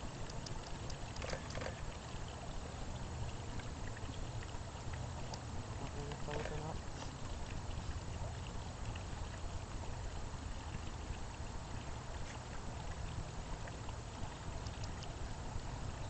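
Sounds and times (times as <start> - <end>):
fountain splashing into basin: 0.0 - 16.0.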